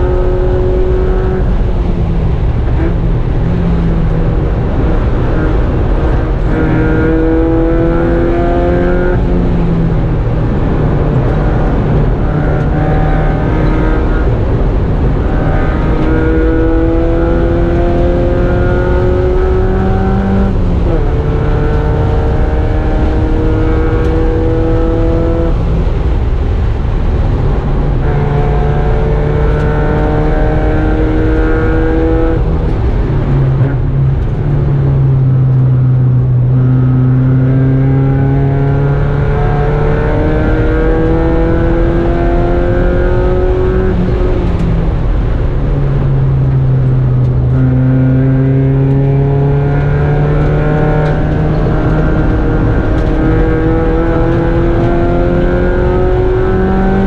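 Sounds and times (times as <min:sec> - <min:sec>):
race car engine under load: 0:00.0 - 0:57.0
wind and road noise: 0:00.0 - 0:57.0.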